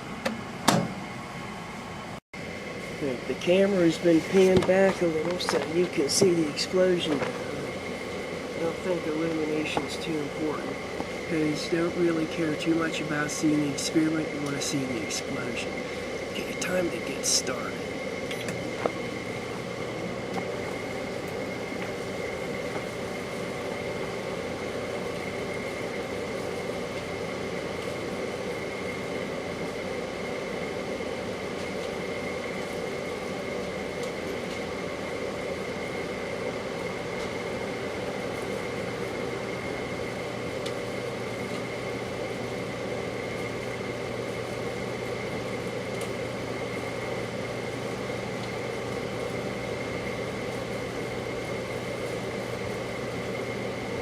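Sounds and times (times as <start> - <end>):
faint high whine: 0.0 - 54.0
microwave oven humming: 0.0 - 54.0.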